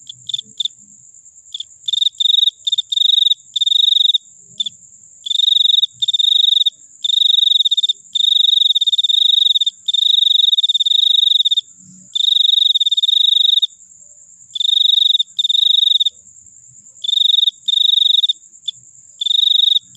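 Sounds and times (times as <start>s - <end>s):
cricket trilling: 0.0s - 19.9s.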